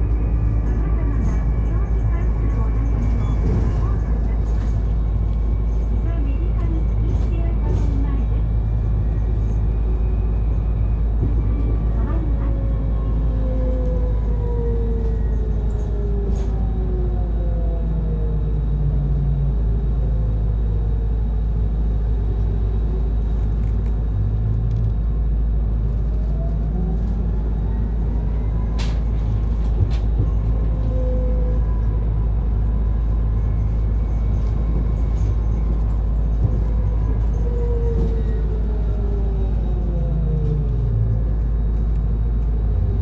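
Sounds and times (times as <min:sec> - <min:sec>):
bus engine rumble with whine: 0:00.0 - 0:43.0.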